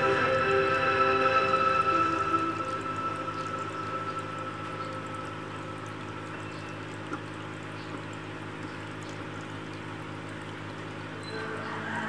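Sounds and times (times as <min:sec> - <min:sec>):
aquarium water bubbling: 0:00.0 - 0:12.0
low steady hum: 0:00.0 - 0:12.0.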